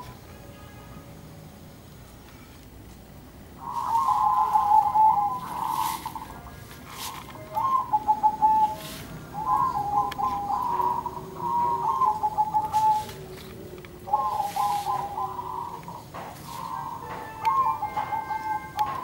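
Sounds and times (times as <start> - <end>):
doves cooing: 3.6 - 19.0.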